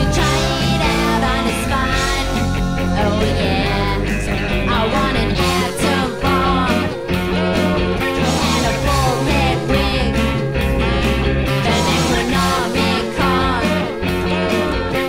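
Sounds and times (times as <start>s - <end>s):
rock music with drums and bass: 0.0s - 15.0s.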